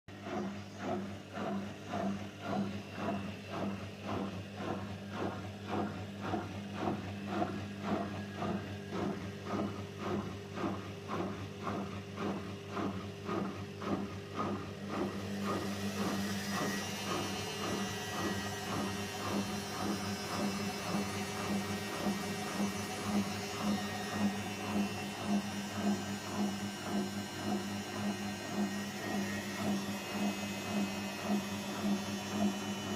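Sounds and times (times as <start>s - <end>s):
washing machine humming: 0.1s - 32.9s.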